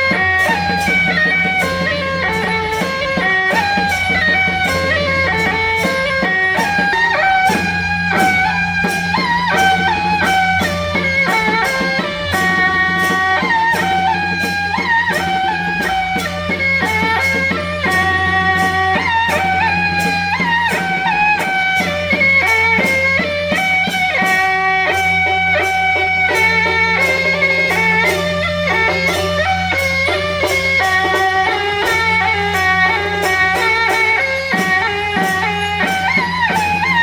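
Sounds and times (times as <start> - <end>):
melody of held notes: 0.0 - 37.0
percussion beat: 0.0 - 37.0.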